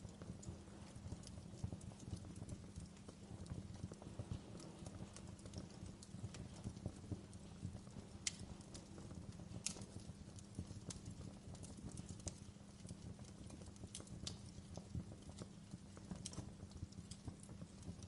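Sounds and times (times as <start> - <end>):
low rumble of flames: 0.0 - 18.0
wood crackling and popping: 0.0 - 18.0
sharp fire snap: 0.1 - 17.9.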